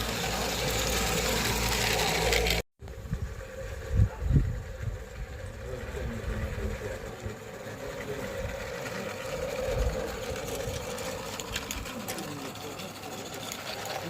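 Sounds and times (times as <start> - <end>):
small steam locomotive running: 0.0 - 14.0.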